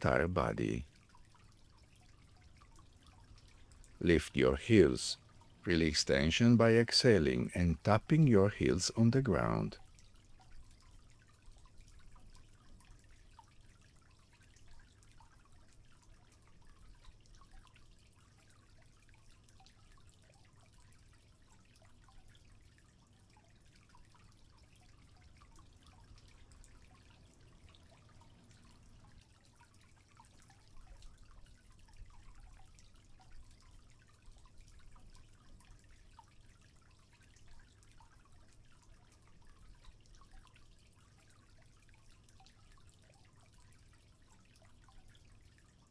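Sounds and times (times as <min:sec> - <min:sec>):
faint water trickling: 0:00.0 - 0:45.9.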